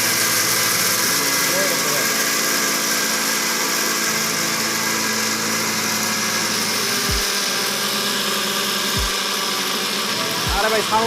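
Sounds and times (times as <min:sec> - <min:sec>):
blender motor grinding: 0:00.0 - 0:11.0.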